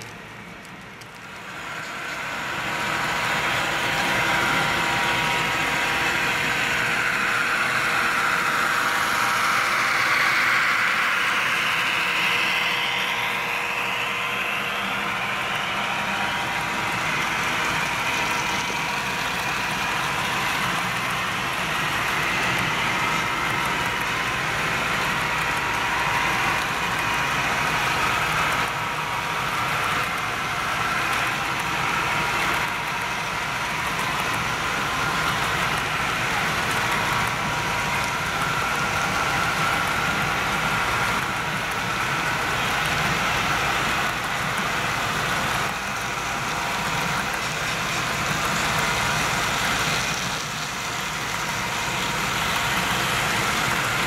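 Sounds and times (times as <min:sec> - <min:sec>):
model train running with whine: 0:00.0 - 0:54.0
wheels rolling on track: 0:00.0 - 0:54.0.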